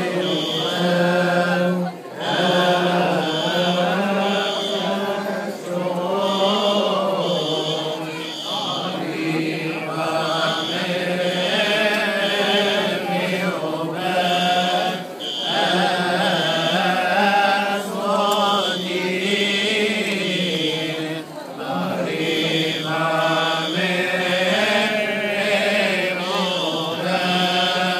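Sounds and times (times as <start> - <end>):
voices chanting a hymn: 0.0 - 27.9.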